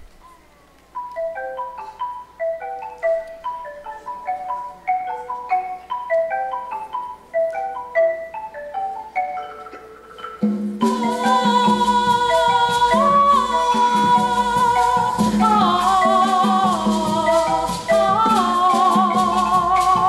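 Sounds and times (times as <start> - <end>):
tuned mallet percussion: 0.2 - 20.0.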